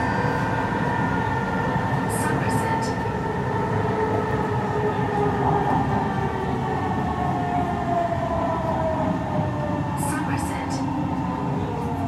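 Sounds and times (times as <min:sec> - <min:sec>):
rumble of train wheels on track: 0:00.0 - 0:12.0.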